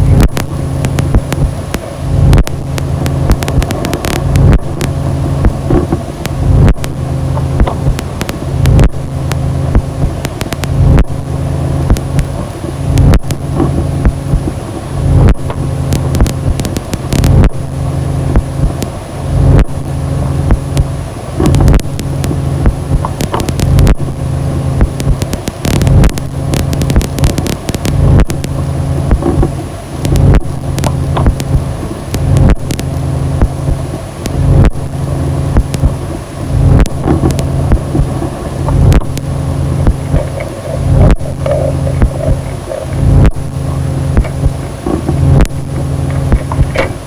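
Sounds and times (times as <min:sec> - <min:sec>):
dark ambient drone music: 0:00.0 - 0:47.0
sharp clicks and crackles: 0:00.0 - 0:47.0
thin high whine: 0:00.0 - 0:47.0.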